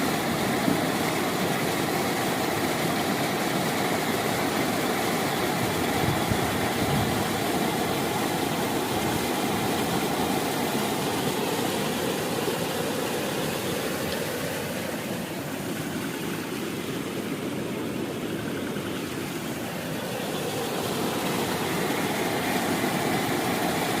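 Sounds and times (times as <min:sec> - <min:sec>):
water rushing over waterfall: 0:00.0 - 0:24.0.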